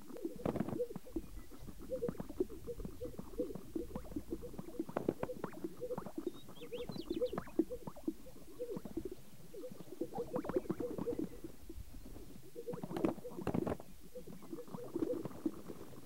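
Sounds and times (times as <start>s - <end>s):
grouse low hollow pops: 0.0s - 16.0s.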